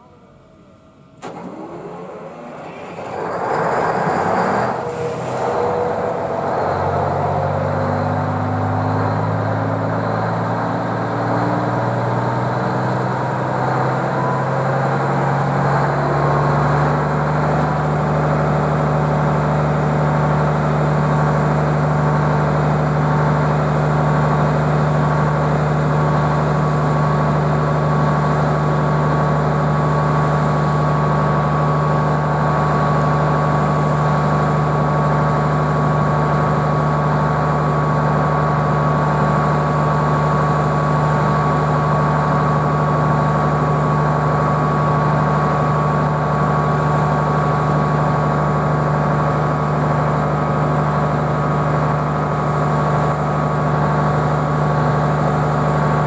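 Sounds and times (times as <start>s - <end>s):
diesel engine starting and idling: 1.1s - 56.0s.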